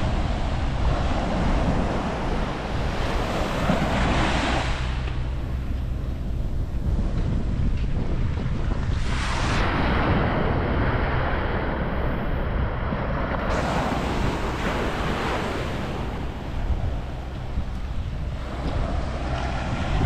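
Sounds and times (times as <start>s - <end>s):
waves washing up a beach: 0.0s - 20.0s
wind rumble on microphone: 0.0s - 20.0s.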